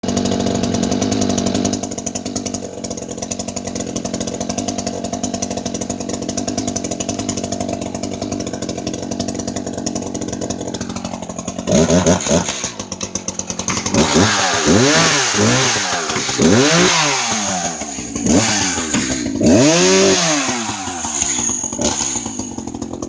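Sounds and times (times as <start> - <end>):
chainsaw engine running: 0.0 - 23.0.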